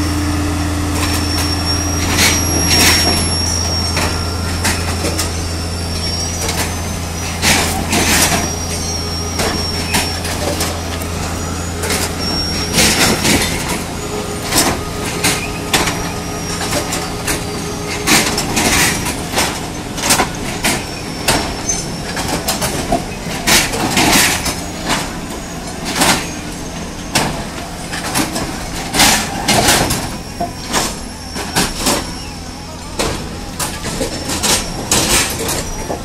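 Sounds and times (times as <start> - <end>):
train engine running: 0.0 - 36.0.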